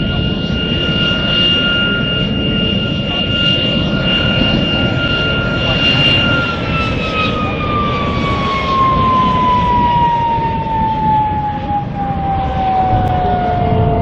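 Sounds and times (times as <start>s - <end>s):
jet engine whine and rumble: 0.0s - 14.0s.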